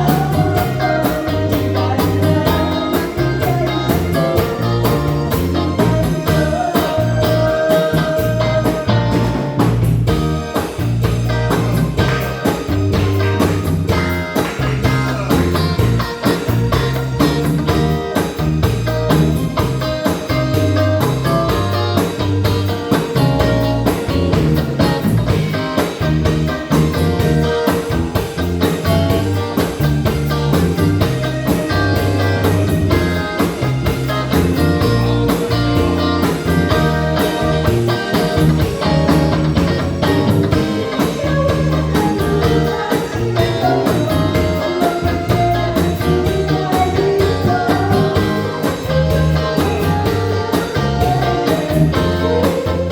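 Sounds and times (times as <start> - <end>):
pop song with steady beat: 0.0 - 52.9.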